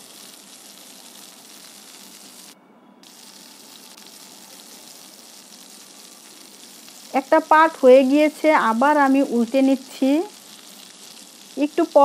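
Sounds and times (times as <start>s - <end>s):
root slices sizzling in oil: 0.0s - 12.0s.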